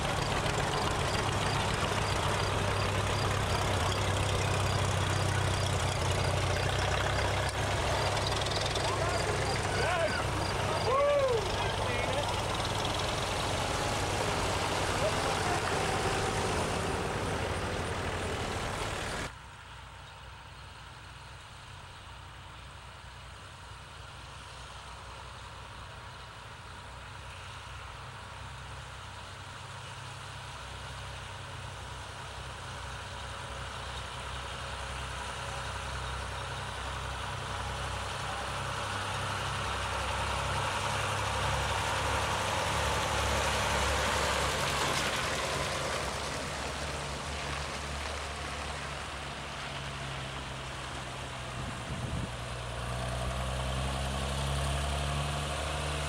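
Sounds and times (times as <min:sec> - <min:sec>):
tractor engines passing: 0:00.0 - 0:56.0.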